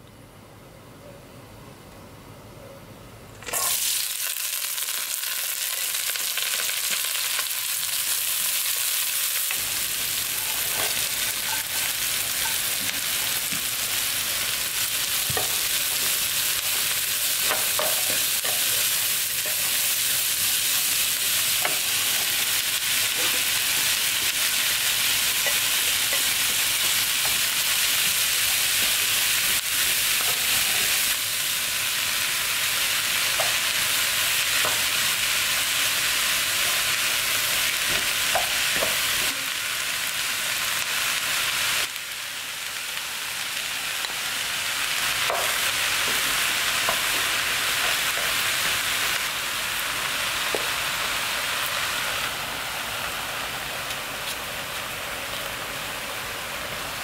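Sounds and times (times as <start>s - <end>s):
vegetables sizzling in oil: 3.4s - 57.0s.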